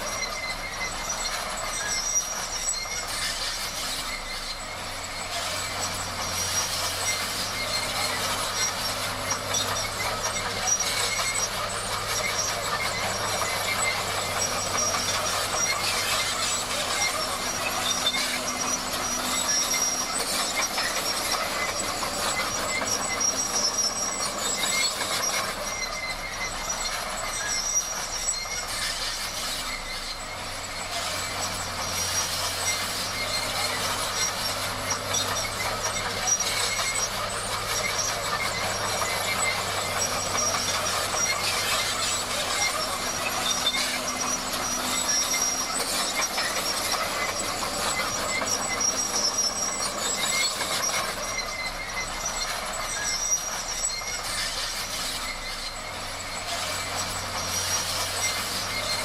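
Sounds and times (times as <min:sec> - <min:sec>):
bulldozer diesel engine humming: 0:00.0 - 0:59.0
steel tracks grinding and squealing: 0:00.0 - 0:59.0.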